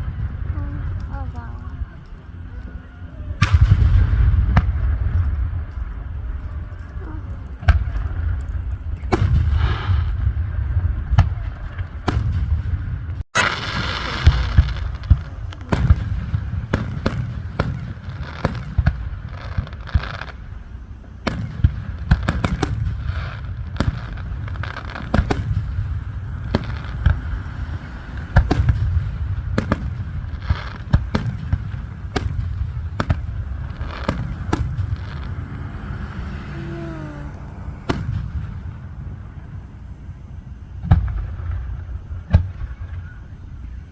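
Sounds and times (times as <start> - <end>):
fireworks bangs and booms: 0.0 - 43.9
fireworks crackling: 0.0 - 43.9.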